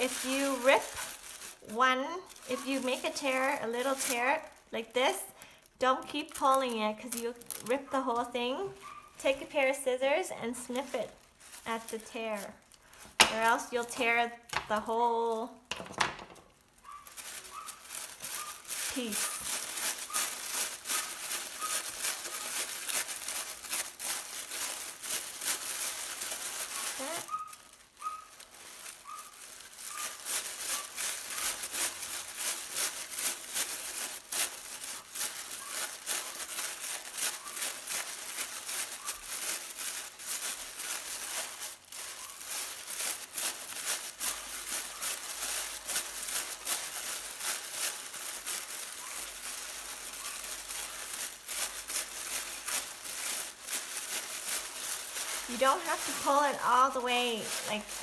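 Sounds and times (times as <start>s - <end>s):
tissue paper rustling and crinkling: 0.0s - 58.0s.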